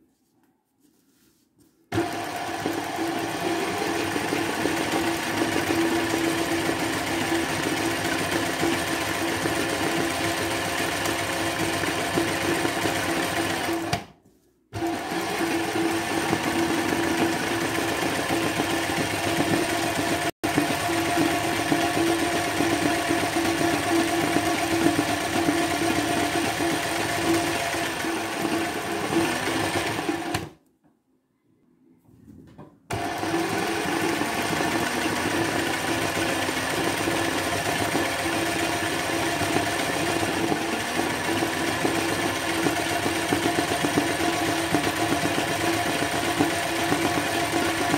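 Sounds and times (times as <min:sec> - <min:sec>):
sewing machine stitching: 0:01.9 - 0:14.1, 0:14.8 - 0:30.6, 0:32.9 - 0:47.9.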